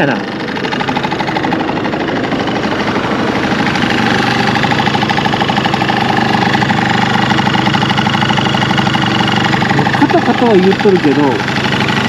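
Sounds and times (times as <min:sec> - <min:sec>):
scooter engine idling with rattle: 0:00.0 - 0:12.0.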